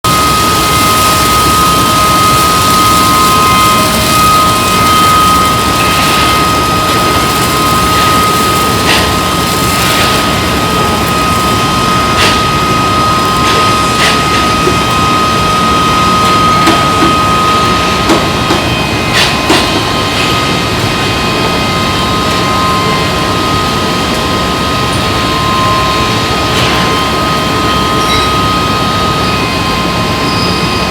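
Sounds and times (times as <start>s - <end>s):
furnace running with high whine: 0.0s - 30.9s.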